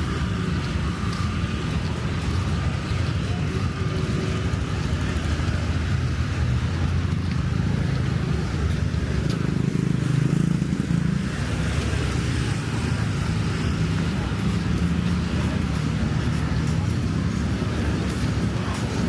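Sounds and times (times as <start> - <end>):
passing cars and motorbikes: 0.0 - 19.0.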